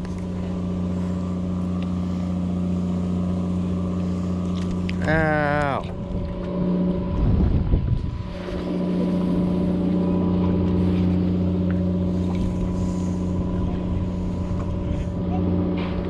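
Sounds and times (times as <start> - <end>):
engine humming: 0.0 - 16.0
short rough rumble: 0.0 - 16.0.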